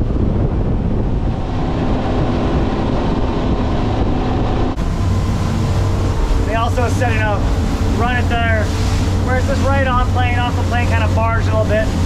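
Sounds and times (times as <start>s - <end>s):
outboard engines running: 0.0s - 12.0s
wind rushing: 0.0s - 12.0s.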